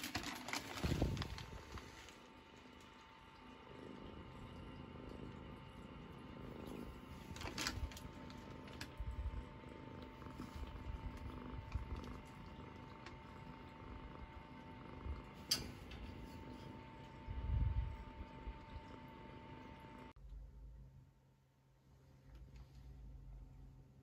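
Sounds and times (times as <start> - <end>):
kitten purring: 0.0 - 20.1.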